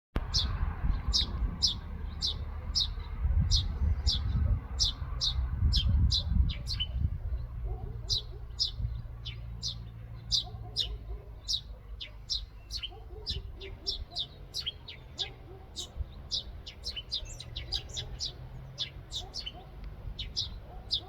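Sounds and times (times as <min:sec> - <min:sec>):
small bird chirping: 0:00.3 - 0:21.0.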